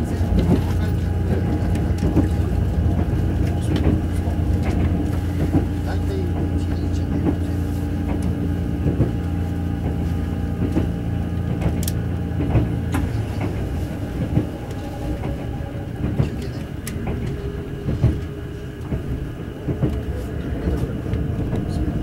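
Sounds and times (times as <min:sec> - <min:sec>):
train running hum: 0:00.0 - 0:22.0.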